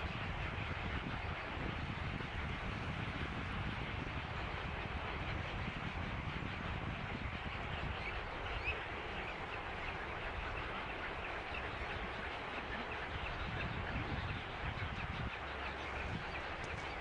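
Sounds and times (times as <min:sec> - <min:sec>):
waterbirds calling: 0:00.0 - 0:17.0.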